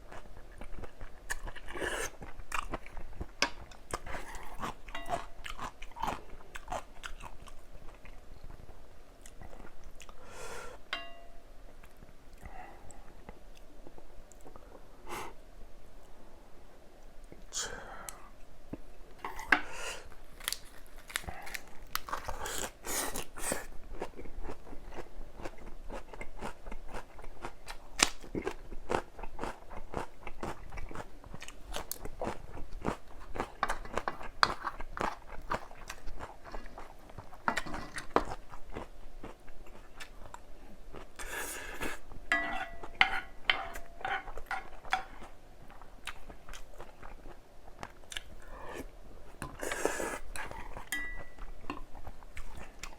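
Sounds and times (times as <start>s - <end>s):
chewing crunchy vegetables: 0.0s - 10.2s, 19.2s - 52.9s.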